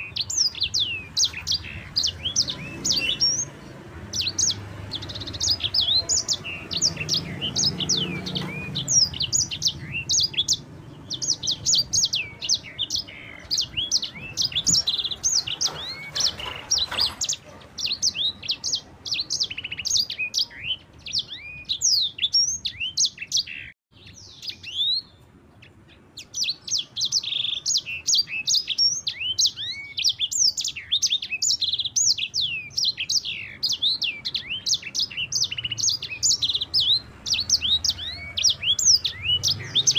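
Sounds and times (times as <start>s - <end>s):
bird singing rolling song: 0.0s - 39.9s.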